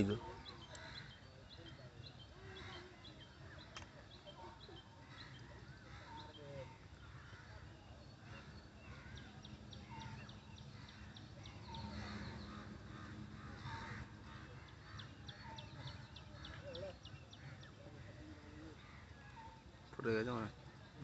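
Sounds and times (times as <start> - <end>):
lower wavering bird calls: 0.0 - 21.0.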